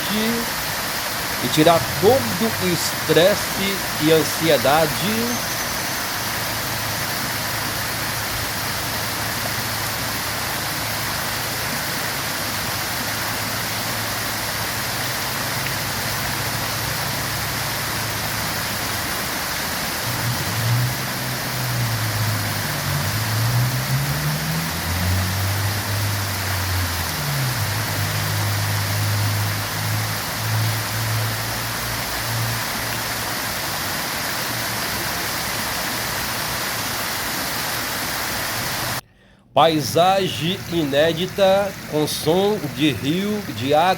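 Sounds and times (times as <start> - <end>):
waterfall roaring: 0.0 - 39.0, 39.6 - 43.9.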